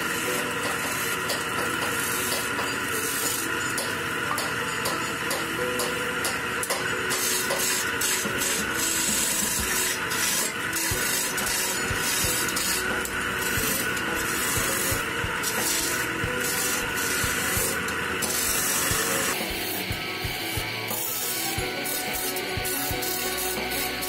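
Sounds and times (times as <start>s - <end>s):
chisel scraping spinning wood: 0.0s - 24.0s
lathe motor hum: 0.0s - 24.0s.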